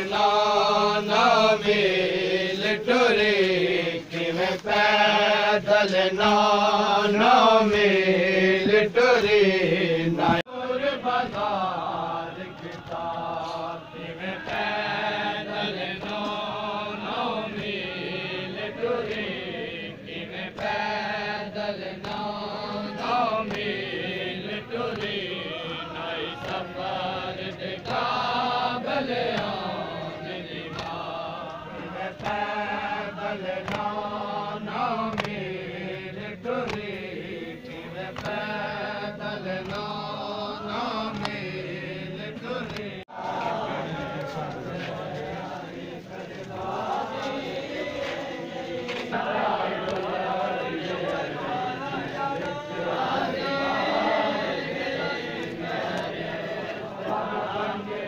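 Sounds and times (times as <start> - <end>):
voices chanting a lament: 0.0 - 58.0.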